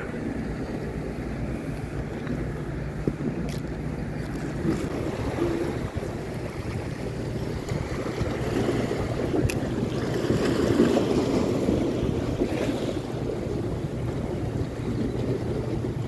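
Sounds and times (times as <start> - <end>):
sea waves on rocky shore: 0.0 - 16.0
wind buffeting microphone: 0.0 - 16.0.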